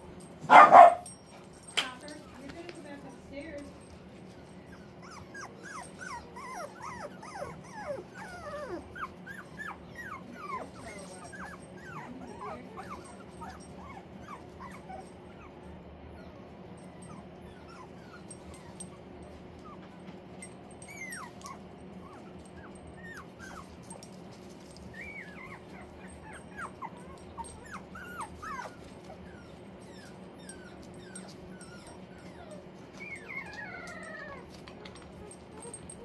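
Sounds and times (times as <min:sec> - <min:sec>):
puppies whimpering and yipping: 0:04.4 - 0:36.0.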